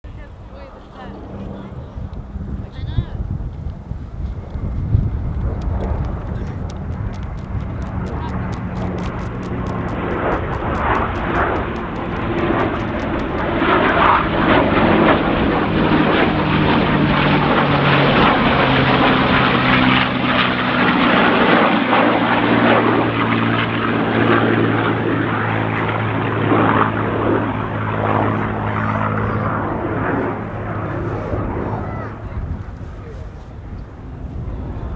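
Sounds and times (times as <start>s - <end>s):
jet engine roar: 0.0s - 34.9s
piston aircraft engine drone: 0.0s - 34.9s.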